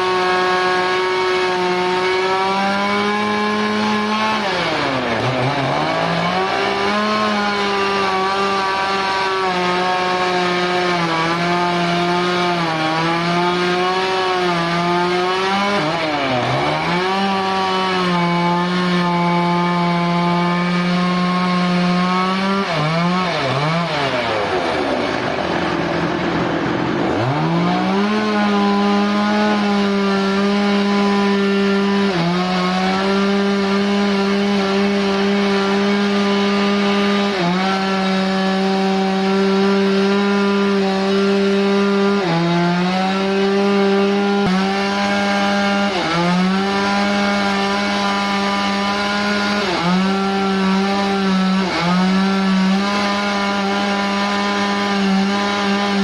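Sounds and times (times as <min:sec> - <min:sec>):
power saw cutting wood: 0:00.0 - 0:56.0.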